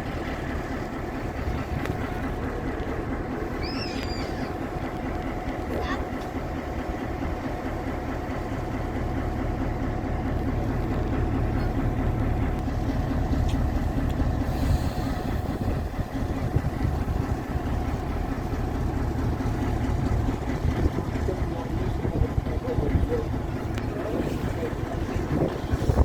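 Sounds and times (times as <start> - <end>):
engine hum: 0.0 - 26.0
train rumbling: 0.0 - 26.0.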